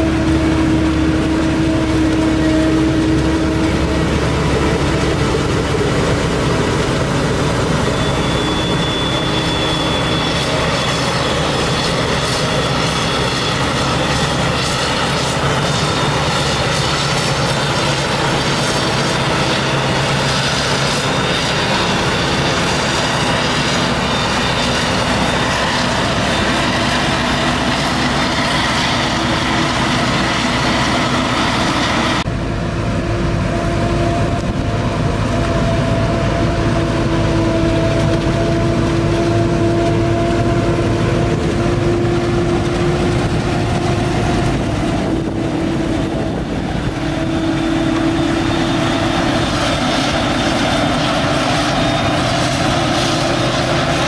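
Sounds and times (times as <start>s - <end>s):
forage harvester drone: 0.0s - 54.0s
tractor engine: 0.0s - 54.0s.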